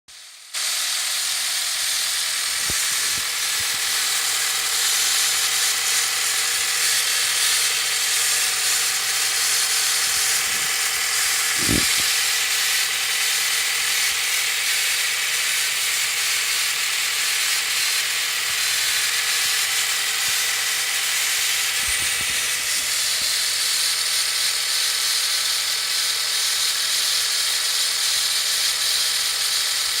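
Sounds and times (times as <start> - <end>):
engine whirring and ratcheting: 0.1 - 30.0.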